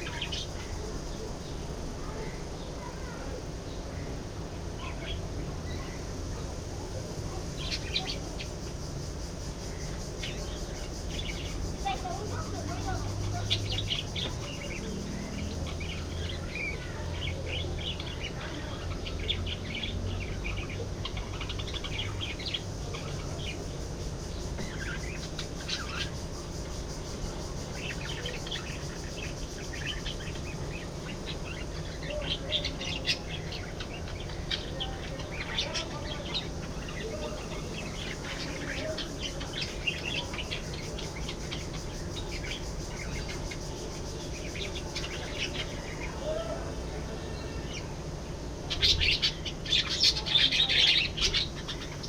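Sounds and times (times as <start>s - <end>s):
budgerigars chattering: 9.6s - 52.0s.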